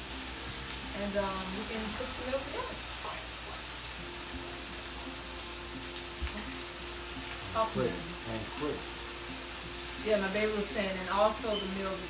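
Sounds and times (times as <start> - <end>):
chicken sizzling on griddle: 0.0 - 12.0.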